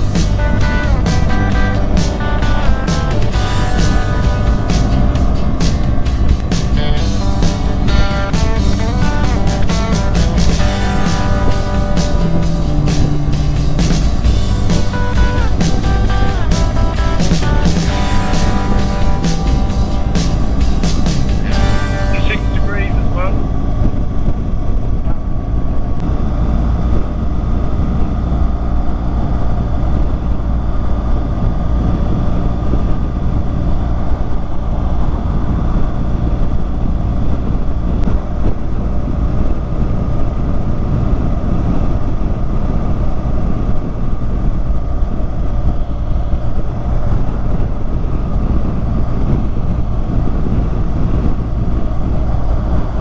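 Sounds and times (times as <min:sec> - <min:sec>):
motorcycle engine: 0:00.0 - 0:53.0
road noise: 0:00.0 - 0:53.0
wind rushing over microphone: 0:00.0 - 0:53.0.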